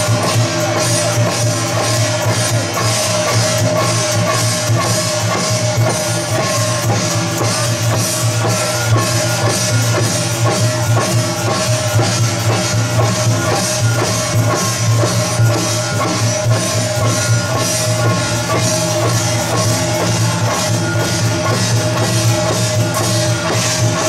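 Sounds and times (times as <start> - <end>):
drums and cymbals beating: 0.0 - 24.0.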